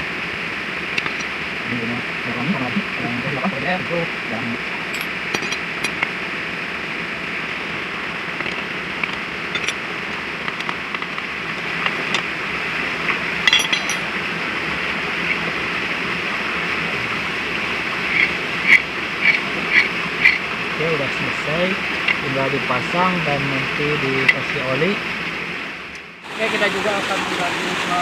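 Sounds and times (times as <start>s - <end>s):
steady outdoor hiss: 0.0s - 28.0s
high-pitched drone: 1.0s - 11.1s, 11.8s - 25.0s.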